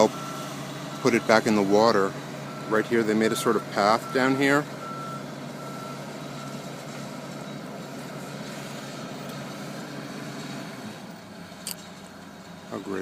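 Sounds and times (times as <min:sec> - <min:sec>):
heavy equipment engine running: 0:00.0 - 0:13.0.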